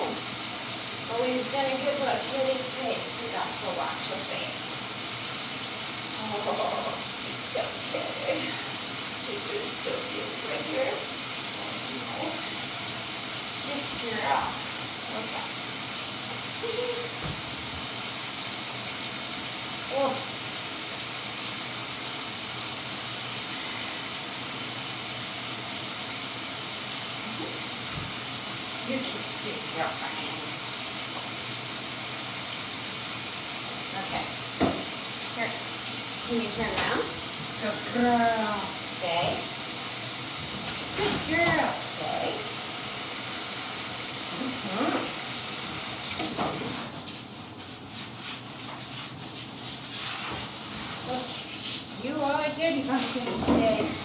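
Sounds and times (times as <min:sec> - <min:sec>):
water spraying on dog's coat: 0:00.0 - 0:54.0.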